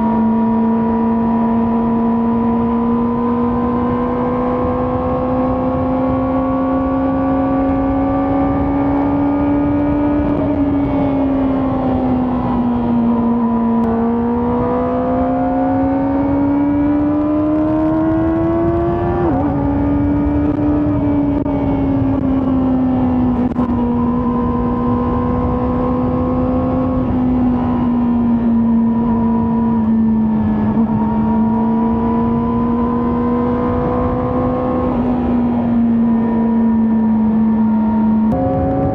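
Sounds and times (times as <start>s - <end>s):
motorcycle engine and exhaust: 0.0s - 38.9s
wind rush: 3.7s - 38.9s.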